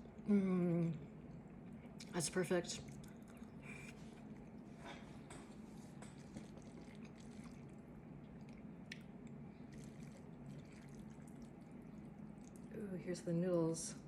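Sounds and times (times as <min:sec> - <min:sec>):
wet chewing sounds: 0:00.0 - 0:12.8
steady low hum: 0:00.0 - 0:14.0.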